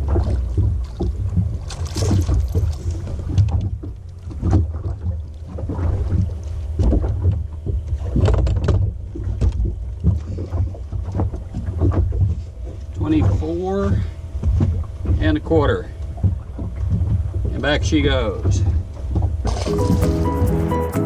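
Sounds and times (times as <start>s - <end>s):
boat engine low rumble: 0.0s - 21.0s.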